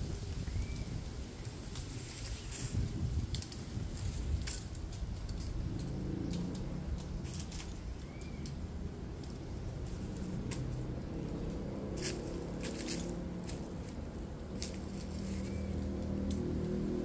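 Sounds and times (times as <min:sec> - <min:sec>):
light metallic jingles: 0:00.6 - 0:17.0.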